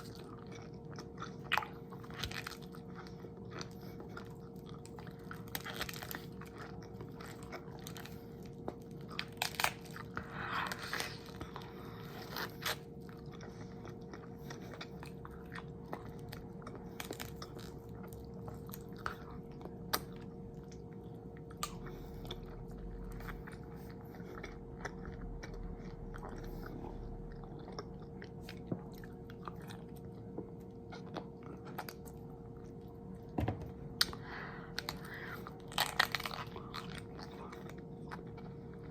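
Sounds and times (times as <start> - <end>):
crunchy chewing: 0.0 - 33.3, 34.0 - 38.9
faint steady hum: 0.0 - 38.9.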